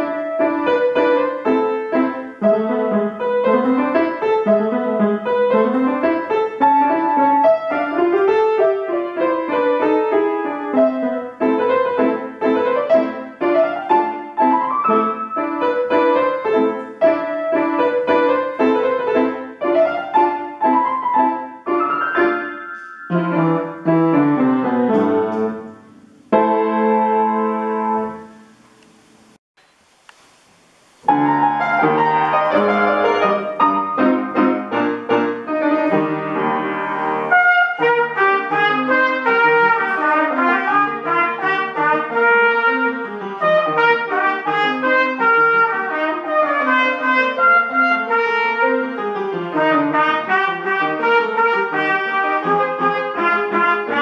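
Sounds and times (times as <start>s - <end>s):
trumpet and piano piece: 0.0s - 29.4s, 30.8s - 54.0s
solo piano classical piece: 0.0s - 54.0s.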